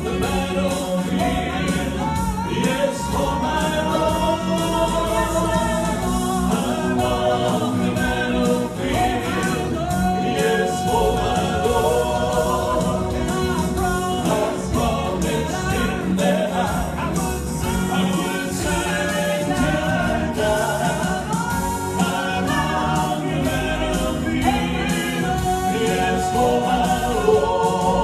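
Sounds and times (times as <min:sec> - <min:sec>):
men singing in harmony: 0:00.0 - 0:28.0.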